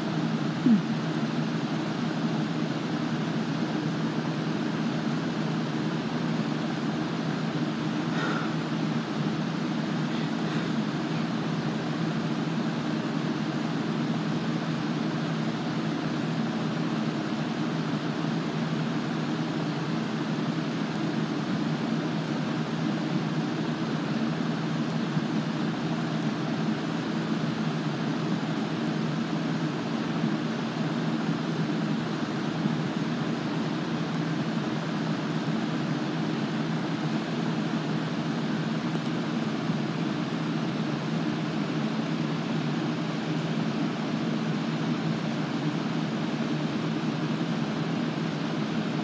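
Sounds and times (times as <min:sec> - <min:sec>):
fan running: 0:00.0 - 0:49.0
low mechanical drone with hiss: 0:00.0 - 0:49.0.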